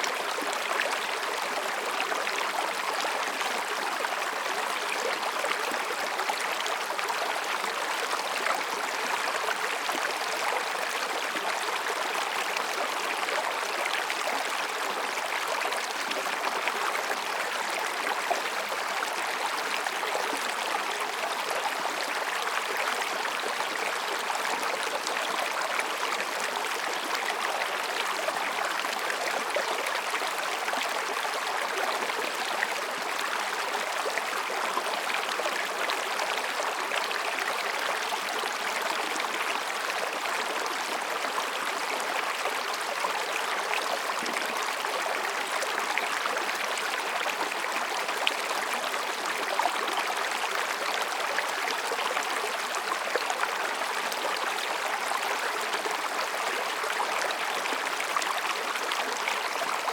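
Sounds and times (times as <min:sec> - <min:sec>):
stream babbling over rocks: 0:00.0 - 0:59.9.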